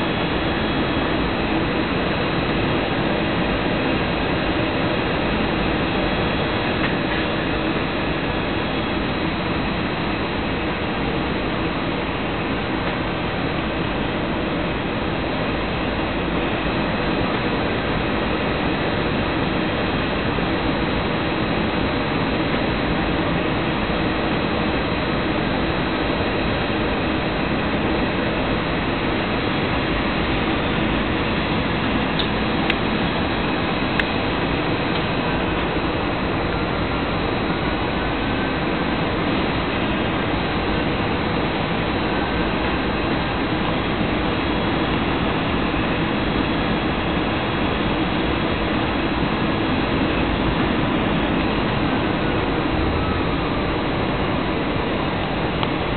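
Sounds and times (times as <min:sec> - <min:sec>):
airplane cabin engine and airflow noise: 0:00.0 - 0:55.9.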